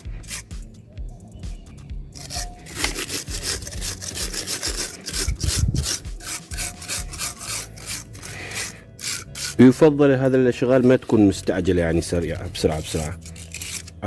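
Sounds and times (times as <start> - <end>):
hand tool scraping sealant: 0.0 - 0.7, 2.1 - 14.0.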